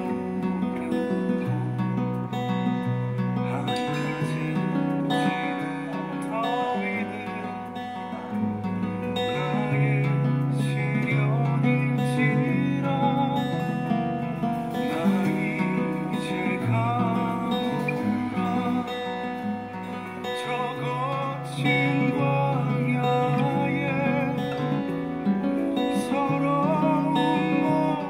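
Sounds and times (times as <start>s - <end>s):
fingerstyle acoustic guitar: 0.0s - 28.0s.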